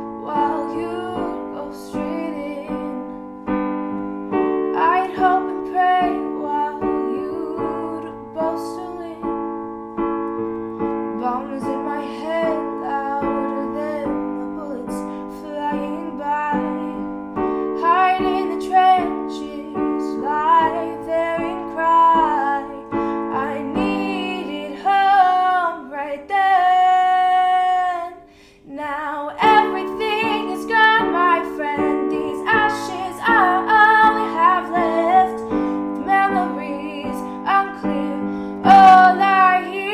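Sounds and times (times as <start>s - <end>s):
woman singing: 0.0s - 3.2s, 4.7s - 9.5s, 11.1s - 39.9s
piano chords: 0.0s - 39.9s.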